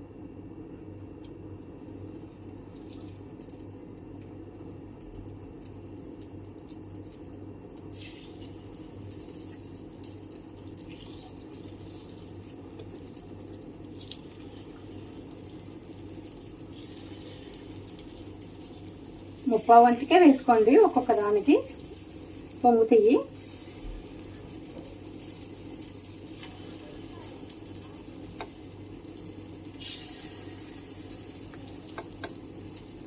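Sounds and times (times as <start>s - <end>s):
oil crackling in pan: 2.0s - 33.0s.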